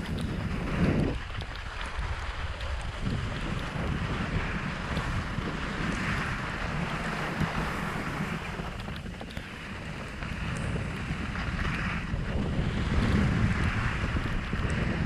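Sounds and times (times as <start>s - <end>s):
skis hissing over snow: 0.0s - 15.0s
wind buffeting microphone: 0.0s - 15.0s.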